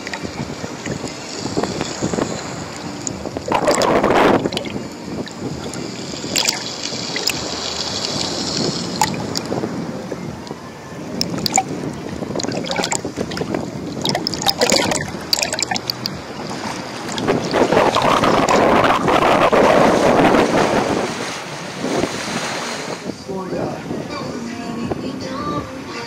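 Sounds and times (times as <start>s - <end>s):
sea surf washing onto beach: 0.0s - 24.2s
wind buffeting microphone: 0.0s - 25.6s.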